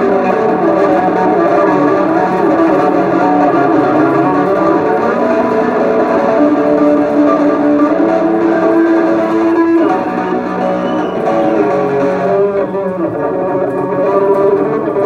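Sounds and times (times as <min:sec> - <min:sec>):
electric bass guitar solo: 0:00.0 - 0:15.0.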